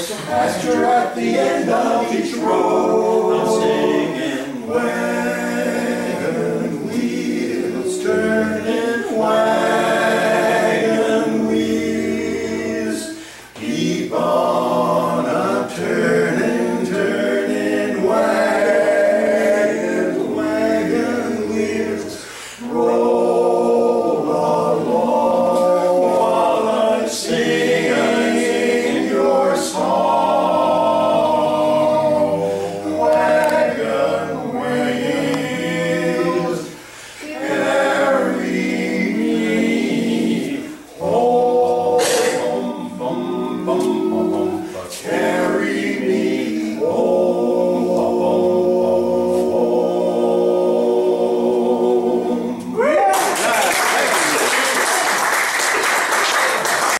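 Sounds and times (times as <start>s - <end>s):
male vocal quartet singing: 0.0s - 52.9s.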